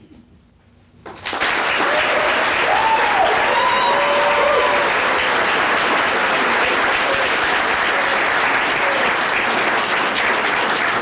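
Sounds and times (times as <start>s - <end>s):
audience applauding: 1.0s - 11.0s
voices over clapping: 1.2s - 11.0s.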